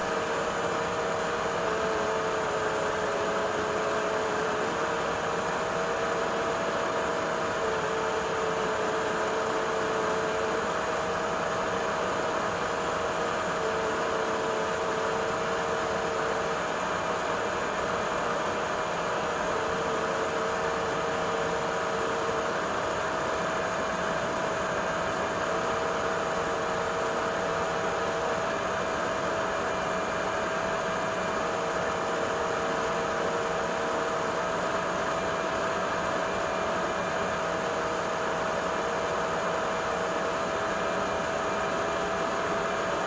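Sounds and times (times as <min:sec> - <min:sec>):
vacuum cleaner running: 0:00.0 - 0:43.0.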